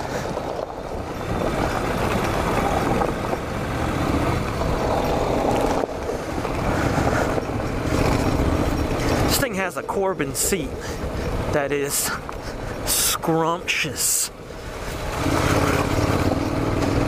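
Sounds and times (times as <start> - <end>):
motorcycle engine with loud exhaust: 0.0 - 17.0.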